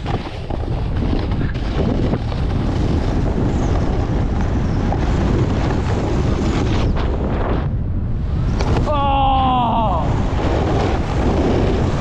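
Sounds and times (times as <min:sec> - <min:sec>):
snowboard scraping over snow: 0:00.0 - 0:12.0
wind rushing over microphone: 0:00.0 - 0:12.0.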